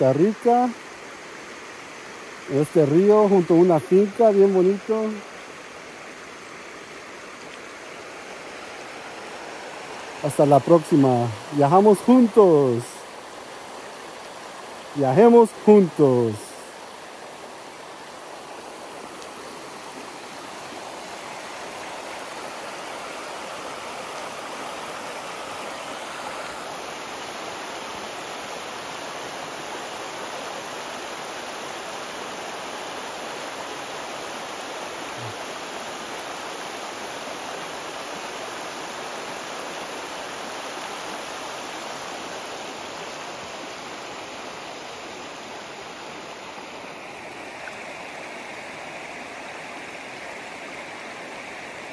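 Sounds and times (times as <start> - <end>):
river rushing over stones: 0.0 - 51.9.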